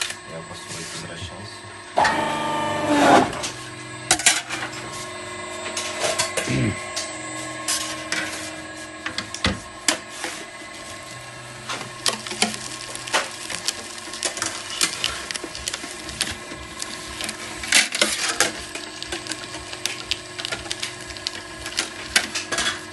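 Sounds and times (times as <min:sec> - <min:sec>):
low motor hum: 0:00.0 - 0:22.9.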